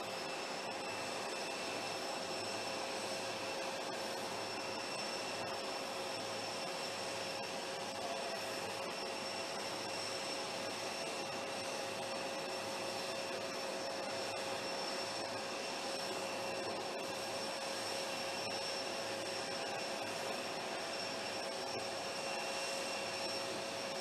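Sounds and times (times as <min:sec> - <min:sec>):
jet turbine whine: 0:00.0 - 0:24.0.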